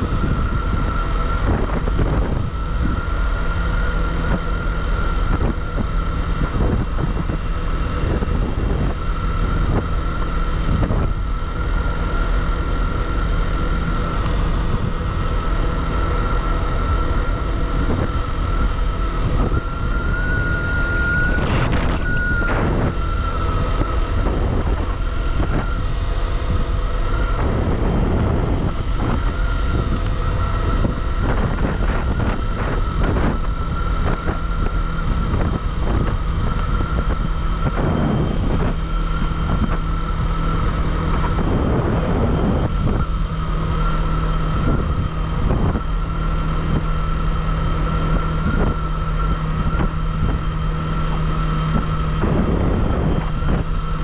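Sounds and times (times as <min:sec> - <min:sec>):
motorcycle engine running: 0:00.0 - 0:54.0
steady high whine: 0:00.0 - 0:54.0
wind buffeting microphone: 0:00.0 - 0:54.0.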